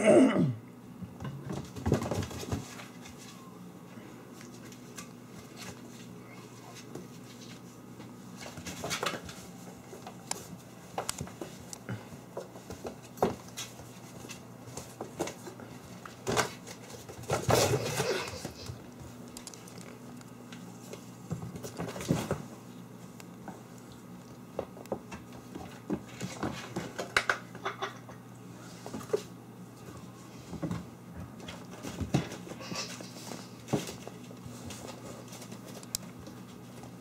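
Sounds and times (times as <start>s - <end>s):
kittens scrabbling on wooden floor: 1.1s - 3.4s, 4.4s - 27.8s, 28.8s - 37.0s
kittens scuffling: 1.2s - 37.0s.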